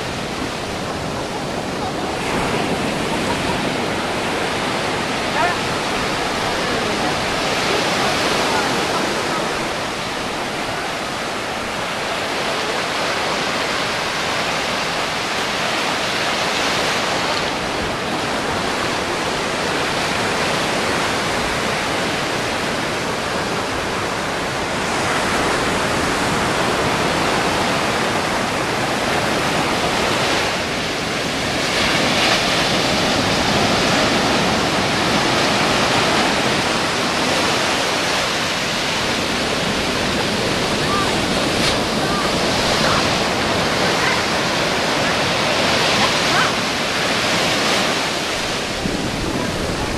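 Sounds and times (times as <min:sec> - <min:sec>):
ocean surf washing up beach: 0:00.0 - 0:49.9.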